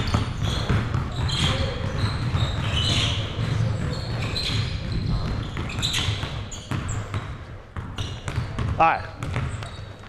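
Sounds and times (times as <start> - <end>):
basketballs dribbling on hardwood: 0.0 - 10.0
sneaker squeaks: 0.0 - 10.0.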